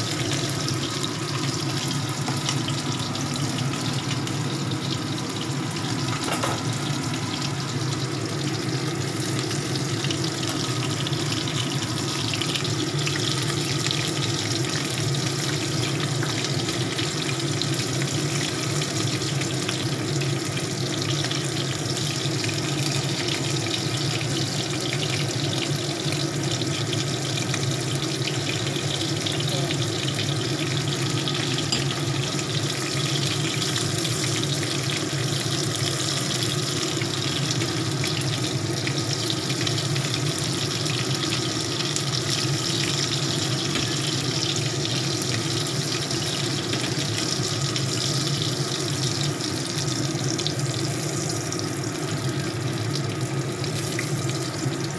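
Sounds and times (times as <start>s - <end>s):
shrimp frying in hot oil: 0.0s - 54.9s.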